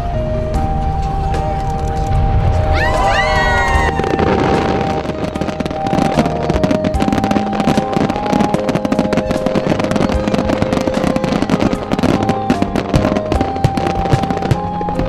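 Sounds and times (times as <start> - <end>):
music with long held notes: 0.0 - 15.0
fireworks crackling and popping: 0.1 - 15.0.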